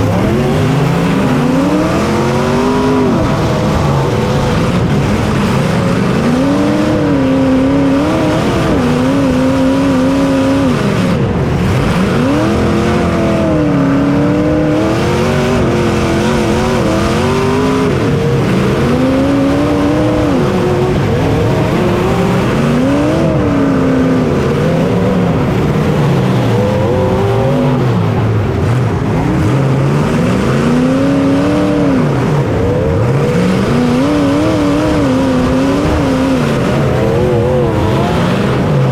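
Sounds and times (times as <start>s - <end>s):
racing engine revving: 0.0s - 38.9s.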